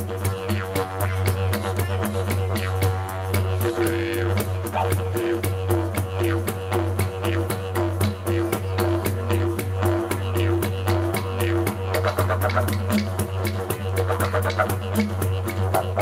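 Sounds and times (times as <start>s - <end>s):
droning instrumental music: 0.0s - 16.0s
fast clicking beat: 0.1s - 16.0s.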